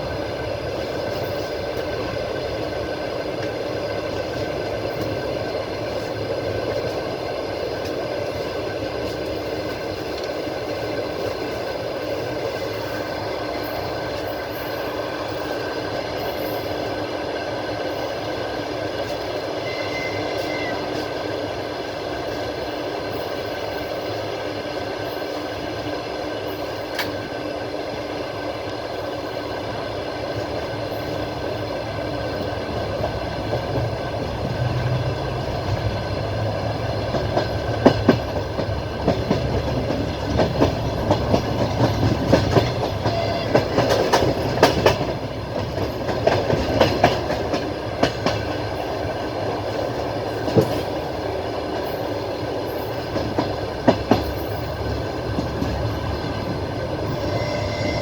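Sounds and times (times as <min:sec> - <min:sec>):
train carriage rumble and hum: 0:00.0 - 0:58.0.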